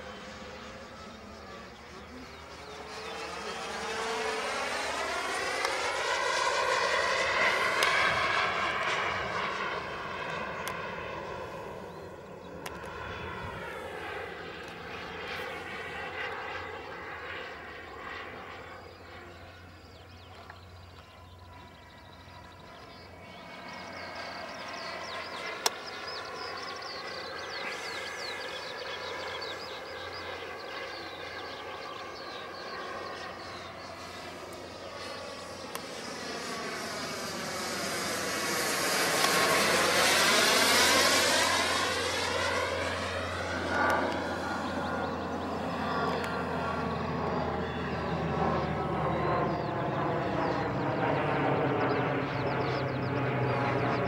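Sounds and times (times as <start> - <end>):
model jet turbine whine: 0.0 - 54.0.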